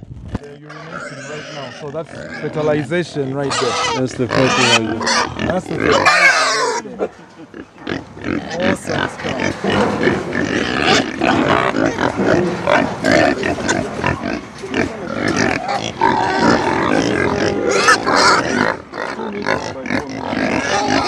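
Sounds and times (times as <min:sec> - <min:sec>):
pigs grunting: 0:00.6 - 0:21.0.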